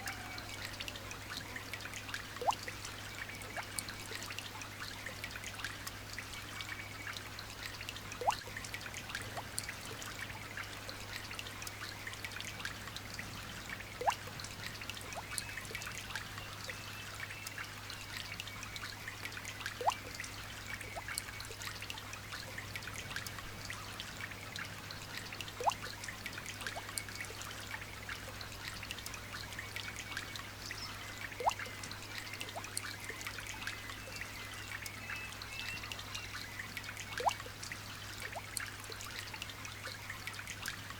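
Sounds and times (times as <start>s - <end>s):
light rain dripping: 0.0s - 40.9s.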